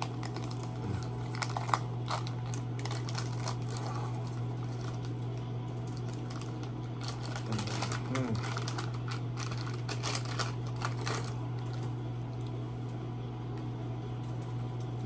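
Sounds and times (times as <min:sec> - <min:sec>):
packaging clicks and crinkles: 0:00.0 - 0:12.5
steady low hum: 0:00.0 - 0:15.0.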